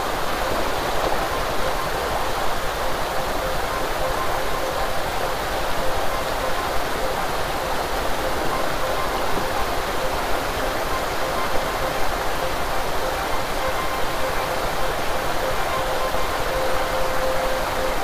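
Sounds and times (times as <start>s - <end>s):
stream rushing: 0.0s - 18.0s.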